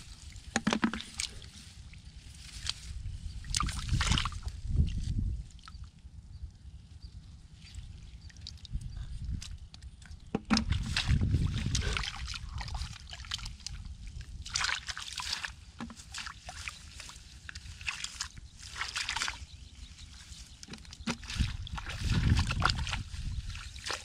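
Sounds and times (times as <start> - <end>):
muddy water sloshing and splashing: 0.0 - 6.2, 7.4 - 24.0.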